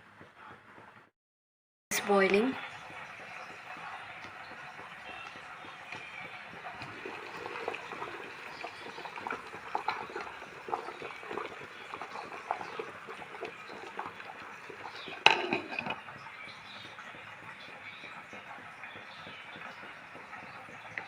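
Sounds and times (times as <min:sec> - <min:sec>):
water boiling and bubbling: 0:02.0 - 0:21.0.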